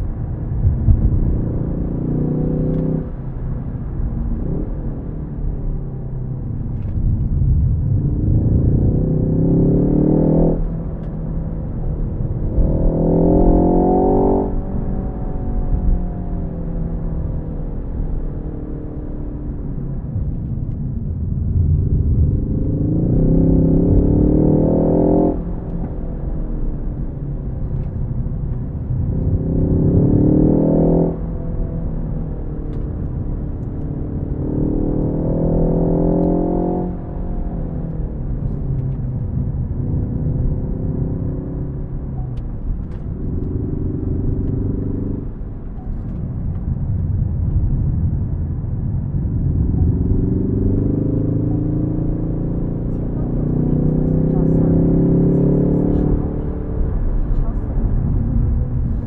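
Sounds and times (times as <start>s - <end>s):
low road rumble: 0.0s - 59.0s.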